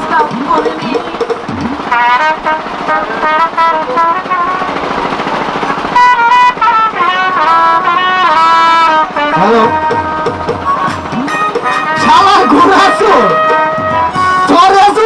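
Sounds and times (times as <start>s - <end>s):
wind instrument melody: 1.6s - 15.0s.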